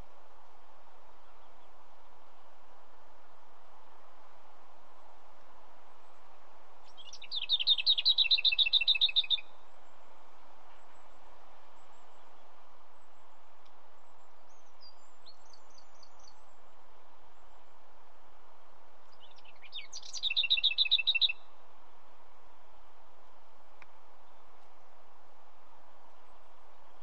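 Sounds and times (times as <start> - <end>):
background hiss: 0.0 - 27.0.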